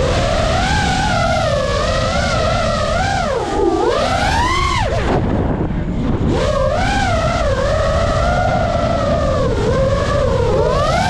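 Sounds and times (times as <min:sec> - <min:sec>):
electric motors and propellers whining: 0:00.0 - 0:11.0
wind rush: 0:00.0 - 0:11.0.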